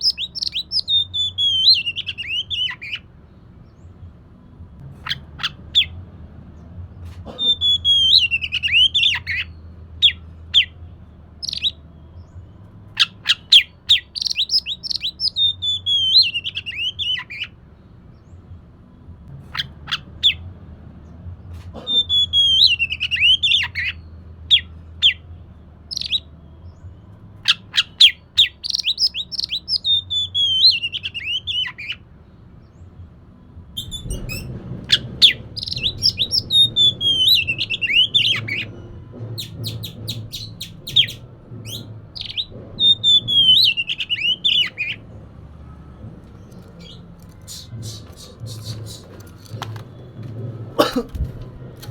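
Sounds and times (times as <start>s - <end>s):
songbird singing: 0.0s - 20.4s, 21.7s - 51.9s.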